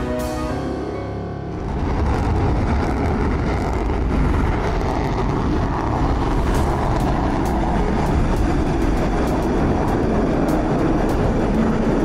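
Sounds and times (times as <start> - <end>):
jet engines rushing rumble: 0.0 - 12.0.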